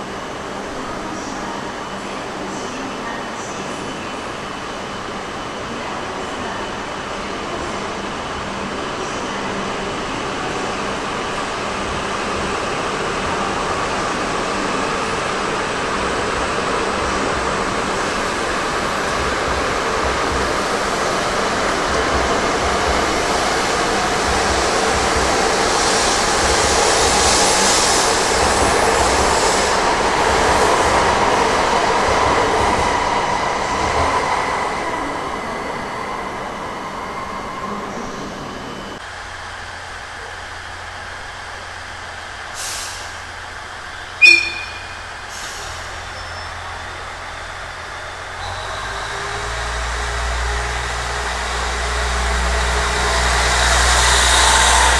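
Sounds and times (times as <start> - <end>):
train passing: 0.0 - 54.9.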